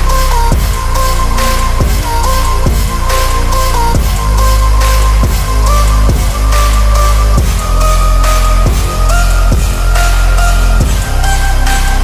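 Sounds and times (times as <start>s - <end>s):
deep bass beat: 0.0s - 12.0s
held synth notes: 0.0s - 12.0s.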